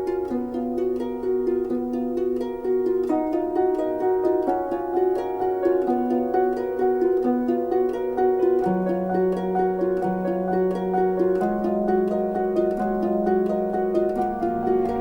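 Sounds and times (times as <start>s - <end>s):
plucked string background music: 0.0s - 15.0s.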